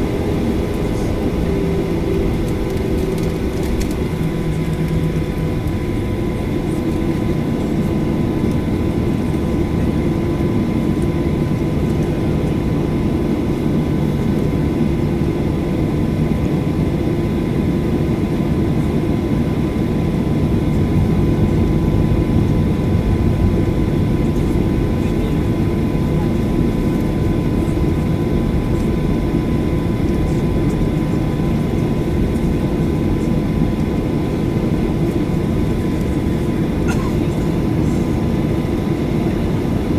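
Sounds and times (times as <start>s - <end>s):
faint jet engine whine: 0.0s - 39.9s
jet engine cabin rumble: 0.0s - 39.9s.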